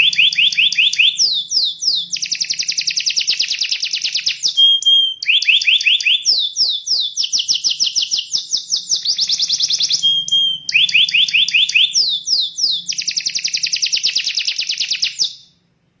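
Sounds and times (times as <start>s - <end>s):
canary singing: 0.0s - 15.6s.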